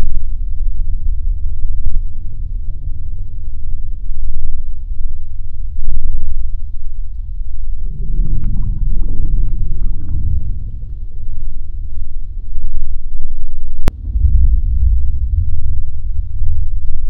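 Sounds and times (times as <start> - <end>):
loud deep rumble: 0.0 - 17.0.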